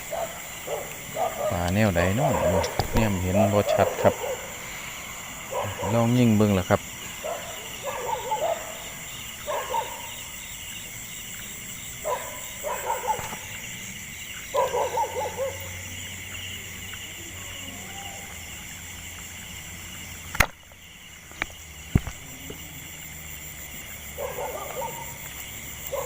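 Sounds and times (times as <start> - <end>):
dogs howling in the distance: 0.0 - 10.8, 11.9 - 19.4, 22.4 - 26.0
high insect drone: 0.0 - 26.0.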